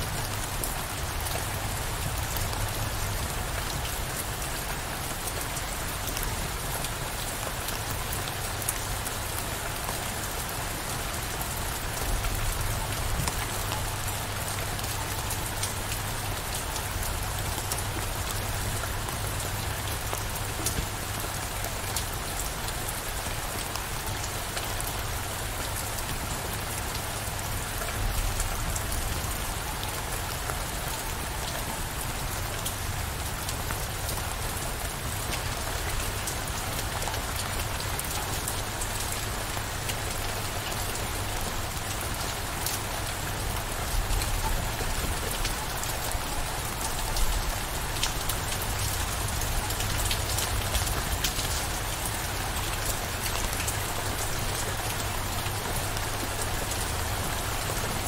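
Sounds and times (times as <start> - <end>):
heavy rain: 0.0 - 58.0
raindrops ticking on surface: 0.0 - 58.0.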